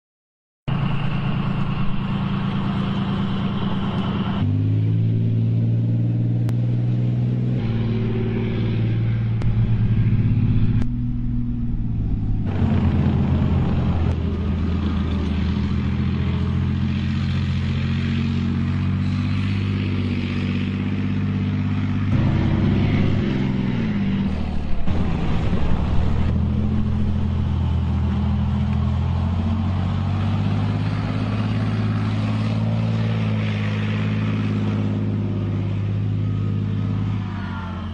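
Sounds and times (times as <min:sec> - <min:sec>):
tank diesel engine running: 0:00.7 - 0:37.9.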